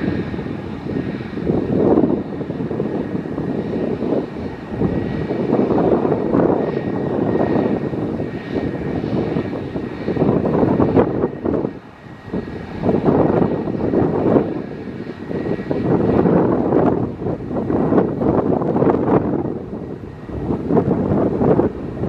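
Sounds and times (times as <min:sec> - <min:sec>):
aircraft engine noise: 0:00.0 - 0:22.0.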